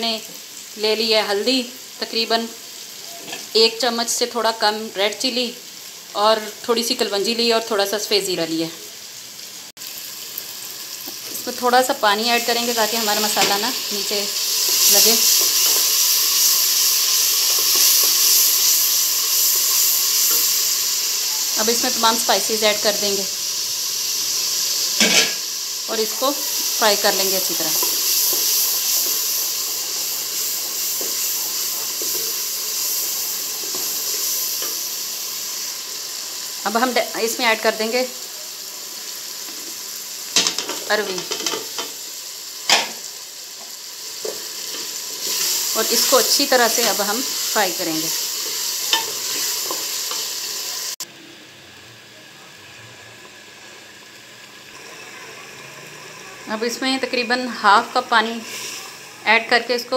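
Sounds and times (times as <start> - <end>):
masala sizzling in hot oil: 0.0 - 59.9.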